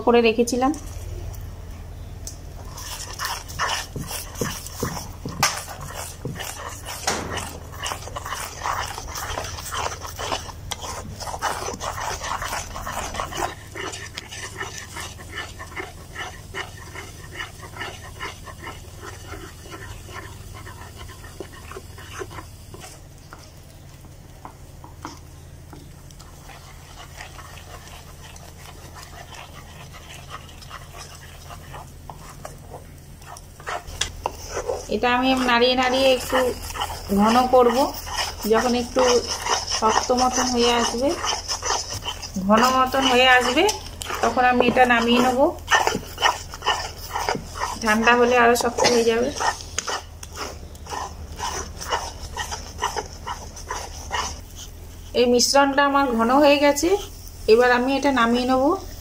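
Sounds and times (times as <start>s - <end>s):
wooden spatula scraping thick paste: 2.5s - 23.9s, 24.5s - 59.0s.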